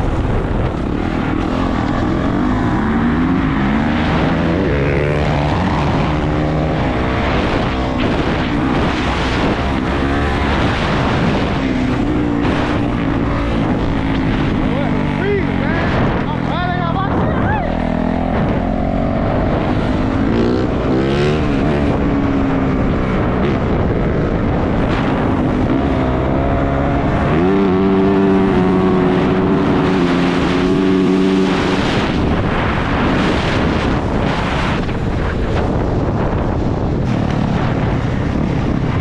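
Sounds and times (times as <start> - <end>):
dirt bike engine revving: 0.0 - 35.0
wind noise on microphone: 0.0 - 39.0.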